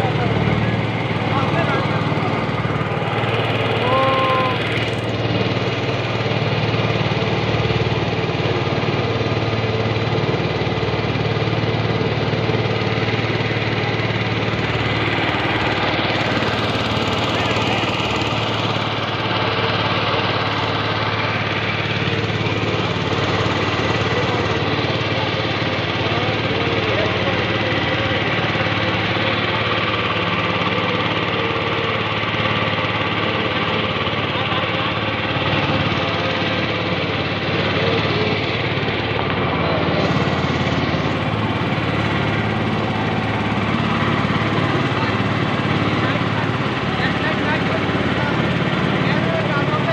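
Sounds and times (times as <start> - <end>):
boat engine droning: 0.0 - 49.9
water rushing along hull: 0.0 - 49.9.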